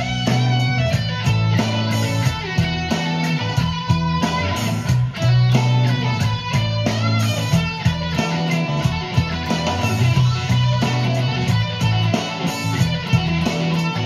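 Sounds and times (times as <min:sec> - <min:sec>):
electric guitar through amplifier: 0:00.0 - 0:14.0.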